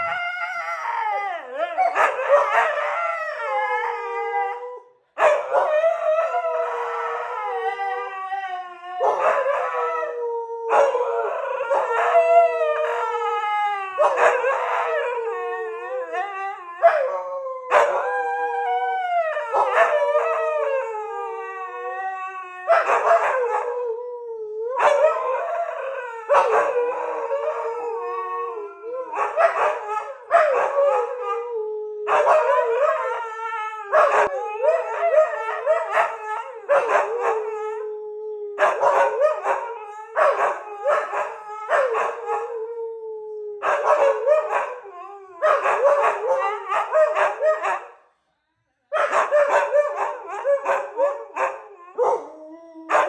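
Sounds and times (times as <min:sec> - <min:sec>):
dogs howling: 0:00.0 - 0:48.0, 0:49.0 - 0:53.0.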